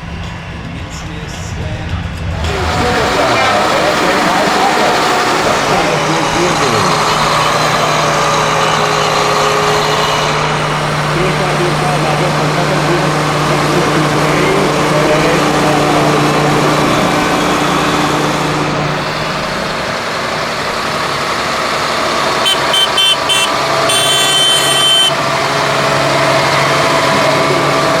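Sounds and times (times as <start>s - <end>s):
tractor diesel engine running: 0.0s - 28.0s
horn toots and blast: 2.3s - 28.0s.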